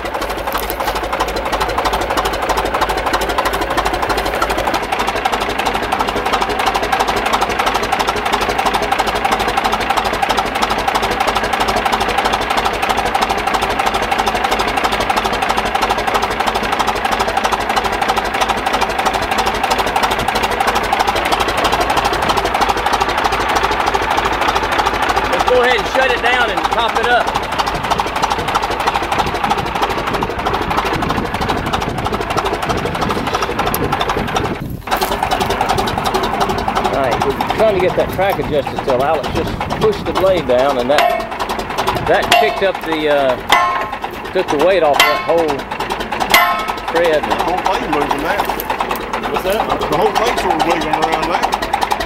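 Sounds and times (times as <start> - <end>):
bulldozer diesel engine clattering: 0.0 - 52.0.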